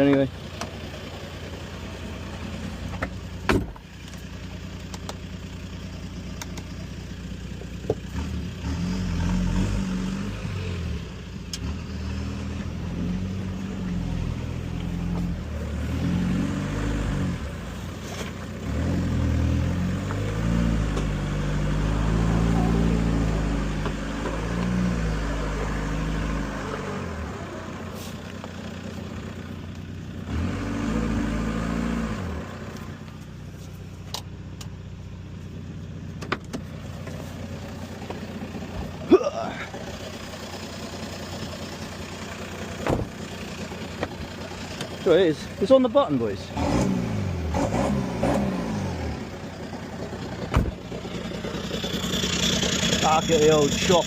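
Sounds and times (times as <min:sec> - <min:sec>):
vehicle engine revving: 0:00.0 - 0:34.7, 0:35.6 - 0:54.0.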